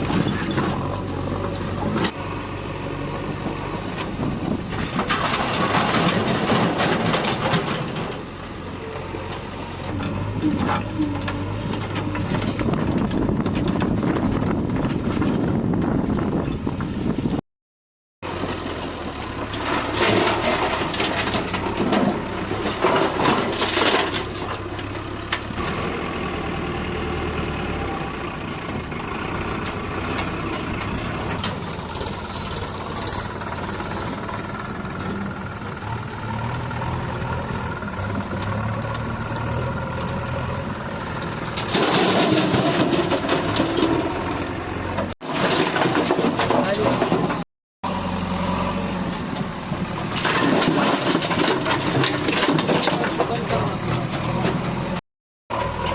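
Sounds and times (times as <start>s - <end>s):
heavy machinery diesel engine: 0.0s - 17.4s, 18.2s - 55.9s.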